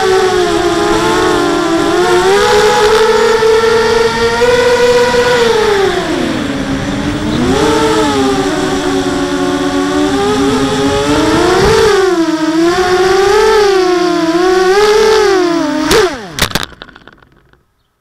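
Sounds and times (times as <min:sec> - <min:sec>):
drone motors whining: 0:00.0 - 0:17.6
drone touching down knocks: 0:00.6 - 0:17.6.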